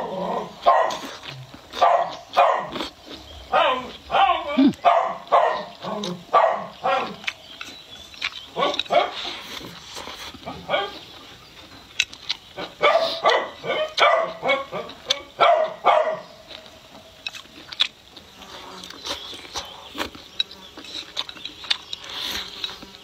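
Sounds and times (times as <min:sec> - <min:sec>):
close chewing and mouth clicks: 0:00.0 - 0:23.0.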